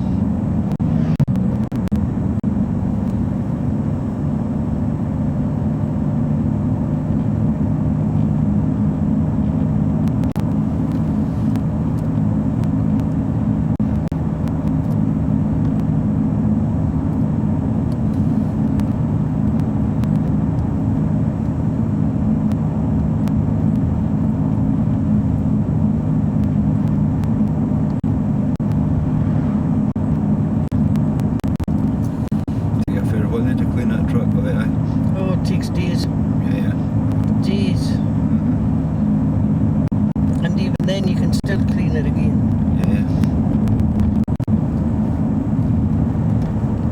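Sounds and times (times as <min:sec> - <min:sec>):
road noise: 0:00.0 - 0:46.9
vehicle engine drone: 0:00.0 - 0:46.9.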